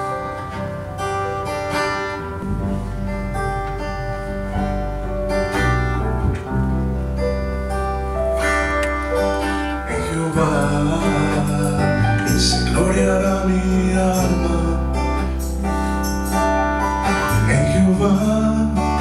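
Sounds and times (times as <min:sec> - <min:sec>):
acoustic guitar strumming: 0:00.0 - 0:19.0
deep sustained bass notes: 0:02.2 - 0:18.9.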